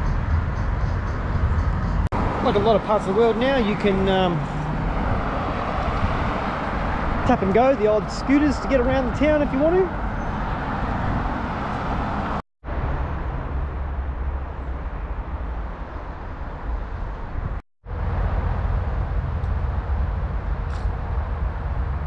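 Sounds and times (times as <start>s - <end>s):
city ambience low rumble: 0.0s - 22.0s.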